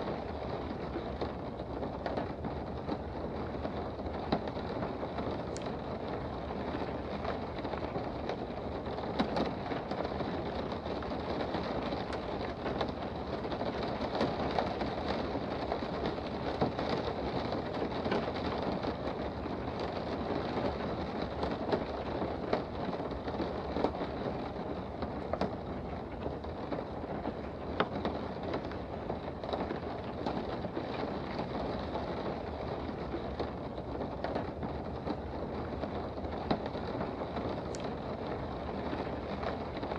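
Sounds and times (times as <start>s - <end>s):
steady rain heard indoors: 0.0s - 39.9s.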